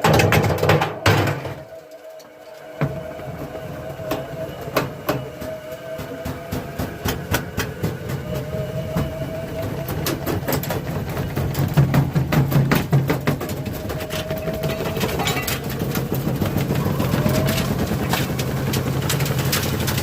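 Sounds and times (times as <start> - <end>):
brick knocking in washing machine: 0.0 - 1.7, 4.0 - 20.0
washing machine motor hum: 0.0 - 20.0.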